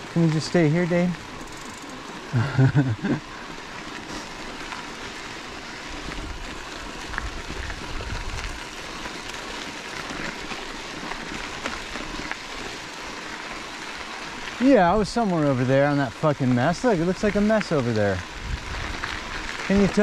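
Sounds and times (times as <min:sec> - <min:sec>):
bike tyres crunching on gravel: 0:00.0 - 0:20.0.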